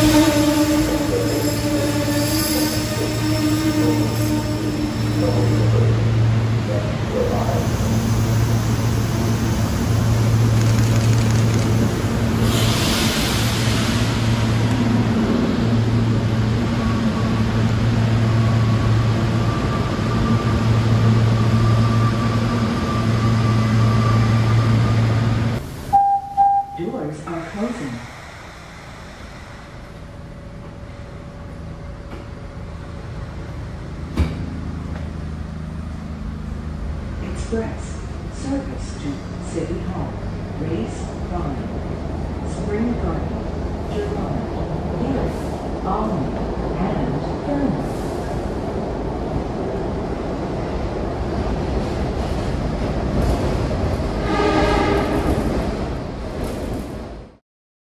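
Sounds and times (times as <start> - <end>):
subway car interior hum: 0.0 - 57.4.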